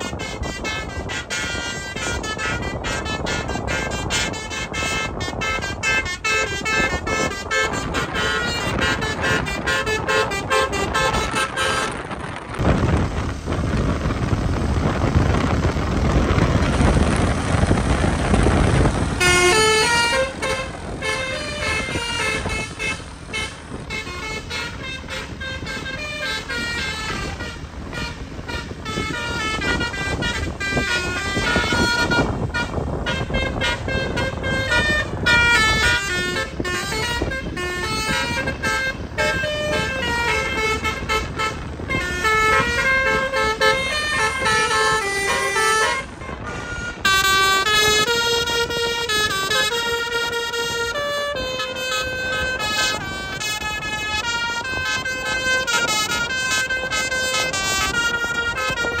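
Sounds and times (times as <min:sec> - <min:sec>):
multi-tone air horn melody: 0:00.0 - 0:13.0, 0:13.8 - 0:59.0
engine and road noise: 0:00.0 - 0:59.0.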